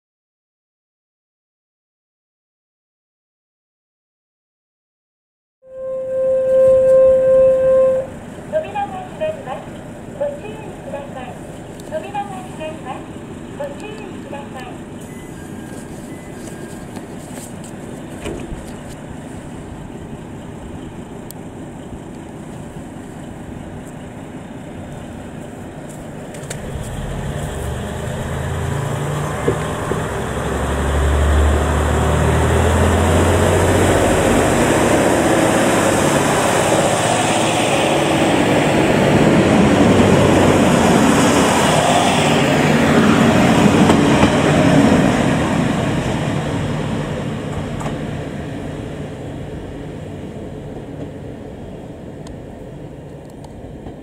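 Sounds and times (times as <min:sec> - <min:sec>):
diesel railcar engine: 0:05.8 - 0:54.0.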